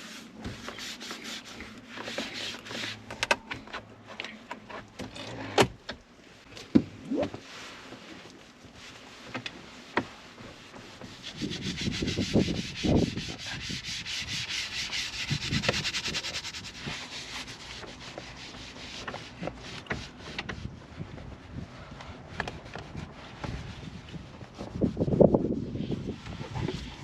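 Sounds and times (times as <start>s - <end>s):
rapid scrubbing on a surface: 0.0s - 3.1s, 7.5s - 21.7s, 22.3s - 27.0s.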